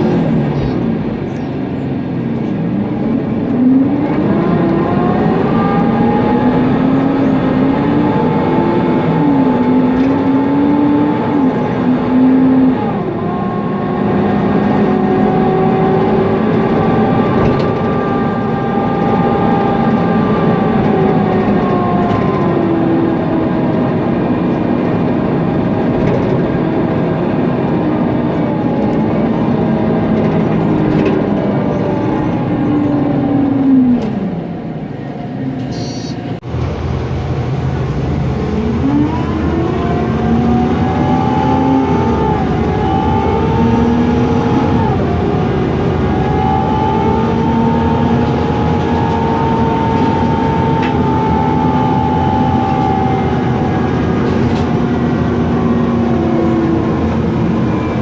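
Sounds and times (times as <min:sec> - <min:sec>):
bus engine whine pulling away: 0:00.0 - 0:58.0.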